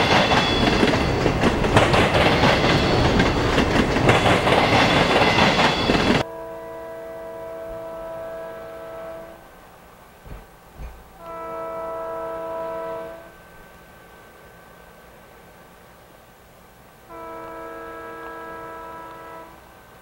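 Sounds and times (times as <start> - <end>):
distant locomotive air horn: 0.0 - 16.2, 17.0 - 20.0
freight train rumbling past: 0.0 - 20.0.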